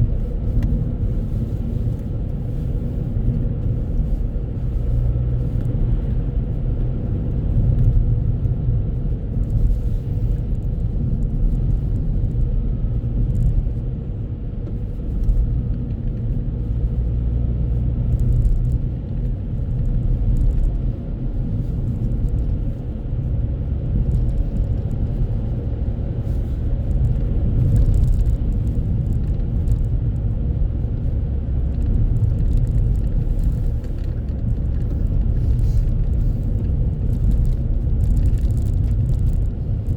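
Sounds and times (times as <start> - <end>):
car interior road and engine rumble: 0.0 - 39.9.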